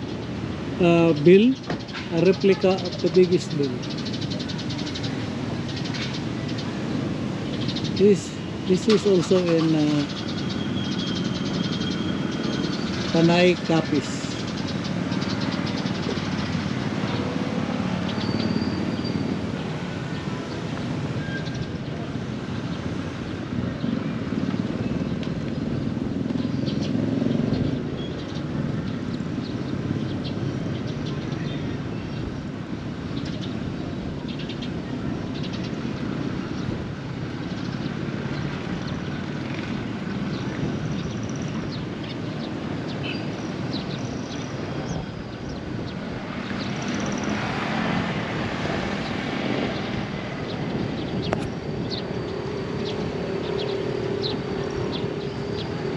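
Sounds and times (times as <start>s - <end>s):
traffic rumble: 0.0s - 55.9s.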